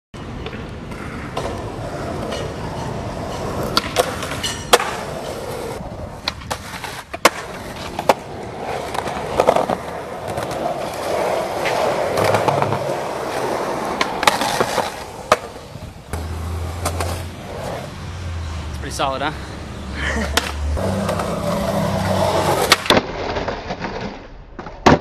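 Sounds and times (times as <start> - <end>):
skateboard clacks: 0.2 - 17.8, 20.3 - 24.0
skateboard wheels rolling on concrete: 0.2 - 25.0.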